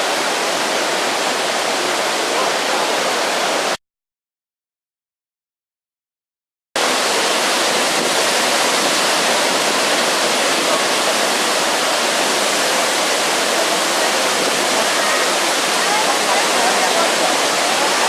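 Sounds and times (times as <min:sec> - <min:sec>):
waterfall rushing: 0:00.0 - 0:03.8, 0:06.8 - 0:18.0.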